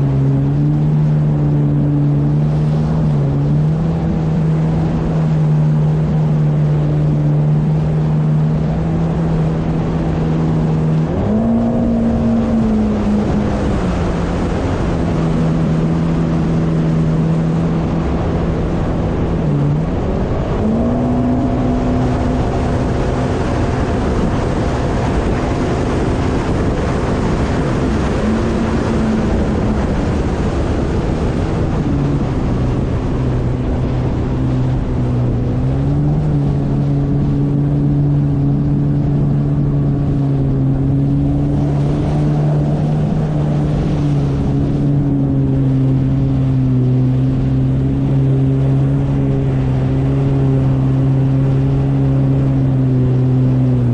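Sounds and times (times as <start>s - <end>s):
jet ski engine droning: 0.0s - 53.9s
rushing water noise: 0.0s - 53.9s.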